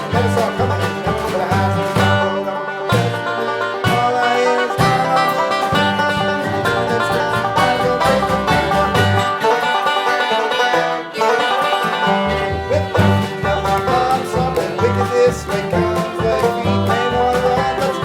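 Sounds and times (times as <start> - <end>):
string band playing: 0.0 - 18.0.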